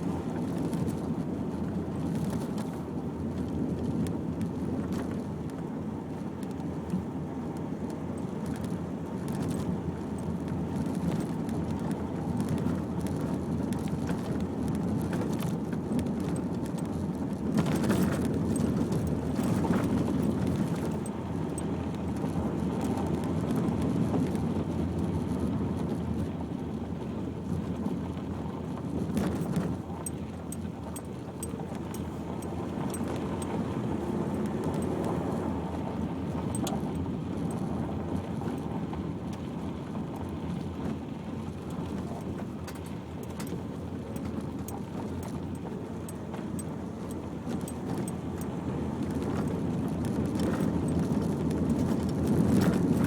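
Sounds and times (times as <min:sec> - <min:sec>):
car rumbling over rough track: 0:00.0 - 0:53.0.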